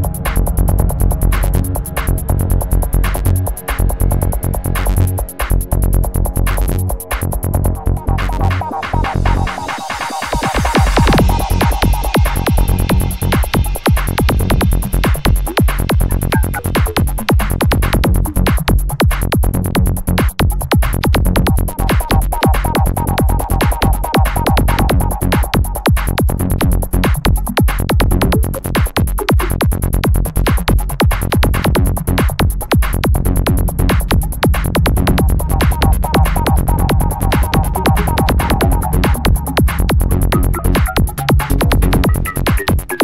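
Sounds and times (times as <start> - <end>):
electronic trance music: 0.0 - 18.2, 20.5 - 29.6, 30.8 - 43.0.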